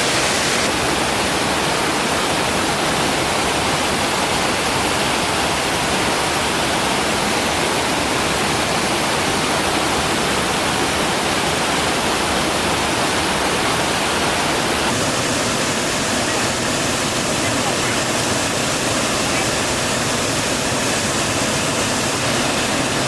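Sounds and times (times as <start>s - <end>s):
rush of fast-flowing water: 0.0s - 23.0s.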